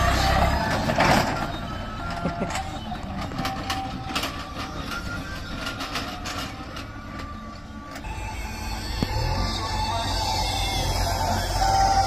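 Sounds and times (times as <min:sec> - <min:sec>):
diesel engine rumble: 0:00.0 - 0:12.0
tractor trolley rattling and clanking: 0:00.0 - 0:12.0.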